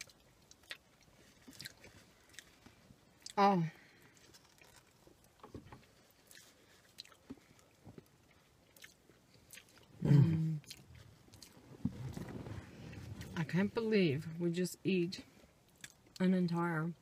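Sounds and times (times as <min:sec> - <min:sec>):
close-up chewing: 0:00.0 - 0:13.5, 0:15.6 - 0:16.2.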